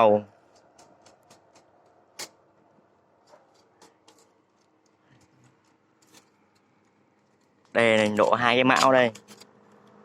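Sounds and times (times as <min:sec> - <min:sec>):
small sharp clicks and knocks: 0:00.4 - 0:02.5, 0:03.2 - 0:10.0.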